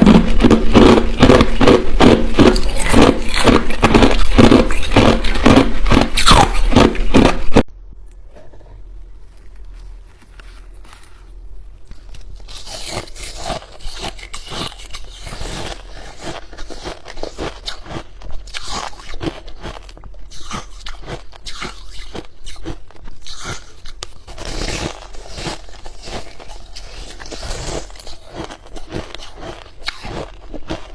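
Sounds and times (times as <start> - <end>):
ice being chewed crunching: 0.0 - 7.6, 11.9 - 30.9.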